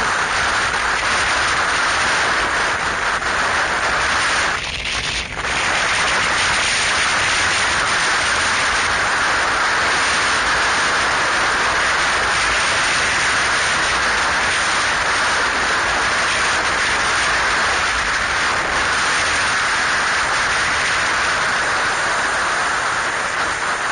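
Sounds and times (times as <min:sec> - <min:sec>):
wind rushing over microphone: 0:00.0 - 0:23.9.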